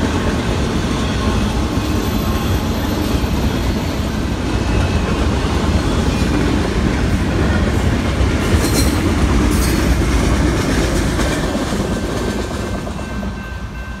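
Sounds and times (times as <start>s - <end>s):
freight train rumbling over rails: 0.0s - 14.0s.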